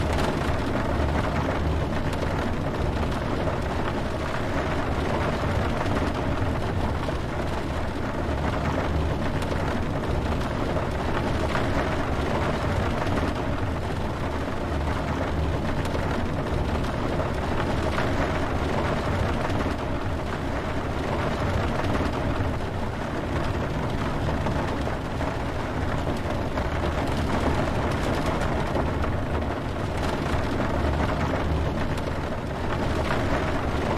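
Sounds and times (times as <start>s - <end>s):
brown noise rumbling hiss: 0.0s - 33.9s
rain falling: 0.0s - 33.9s.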